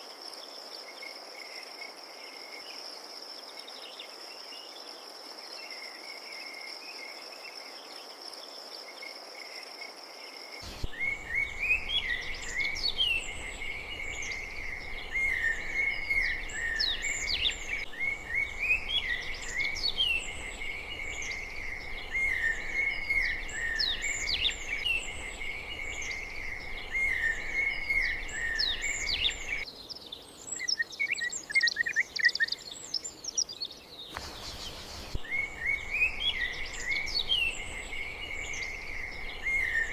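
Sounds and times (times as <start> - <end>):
crickets trilling: 0.0 - 29.6, 34.1 - 39.9
chorus of songbirds chirping: 0.0 - 39.9.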